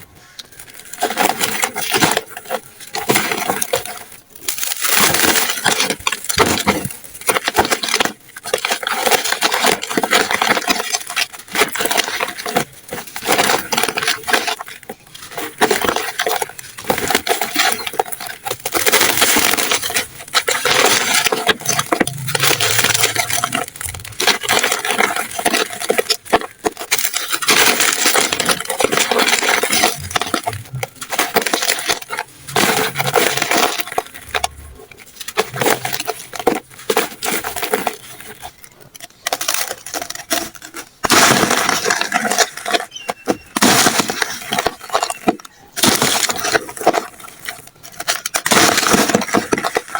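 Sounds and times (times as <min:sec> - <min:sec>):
dry pieces crunching: 0:00.0 - 0:49.9.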